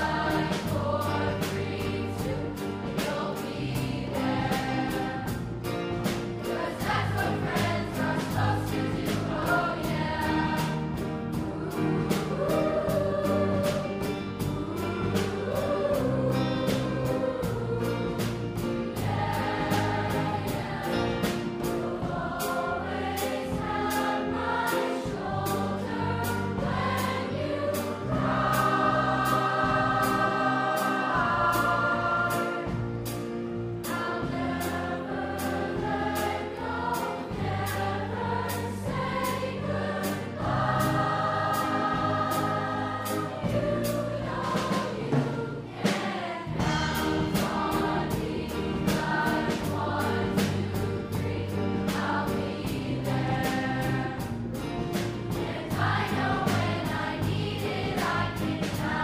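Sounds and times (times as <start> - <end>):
live band playing: 0.0 - 39.4, 40.0 - 59.0
choir singing: 0.0 - 59.0.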